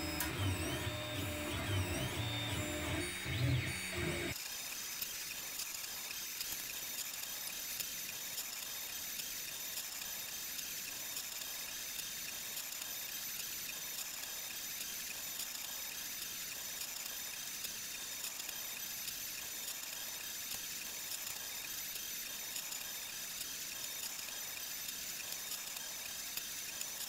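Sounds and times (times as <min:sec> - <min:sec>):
printer fans and motors whirring: 0:00.0 - 0:27.0.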